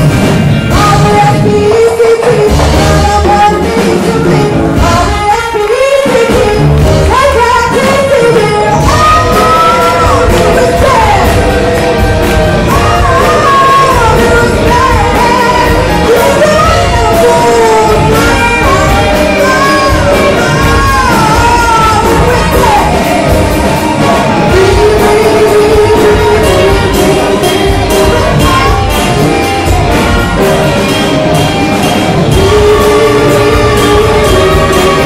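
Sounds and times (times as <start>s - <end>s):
live band with electric guitar: 0.0s - 35.0s
woman singing: 0.7s - 35.0s.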